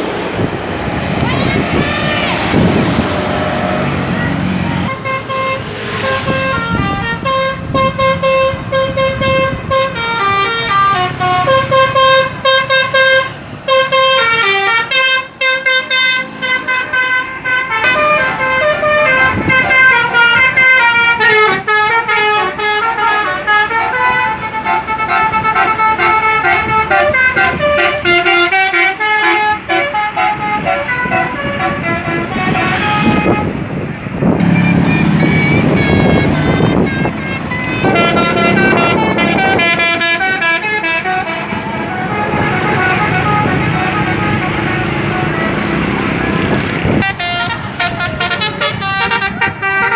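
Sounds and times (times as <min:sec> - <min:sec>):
bus multi-tone horn melody: 0:00.0 - 0:49.9.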